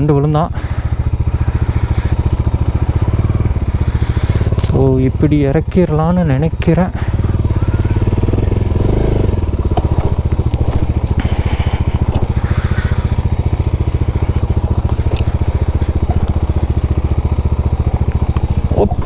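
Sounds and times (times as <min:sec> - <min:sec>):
motorcycle engine at low revs: 0:00.0 - 0:19.0
stones crunching under tyres: 0:00.6 - 0:05.3, 0:07.0 - 0:19.0.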